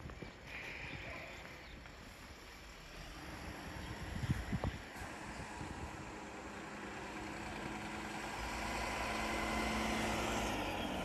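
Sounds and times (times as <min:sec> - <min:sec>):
truck engine approaching: 0:02.2 - 0:11.0.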